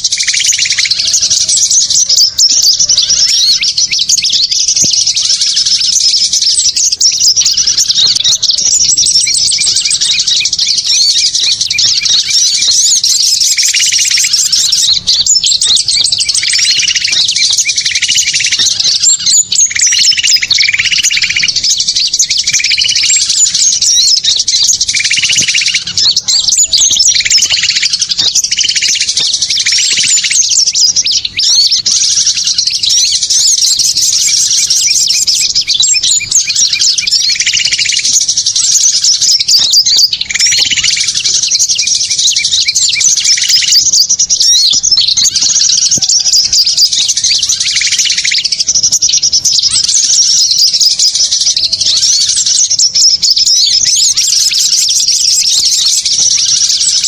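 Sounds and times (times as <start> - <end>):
small songbirds chattering: 0.0 - 57.0.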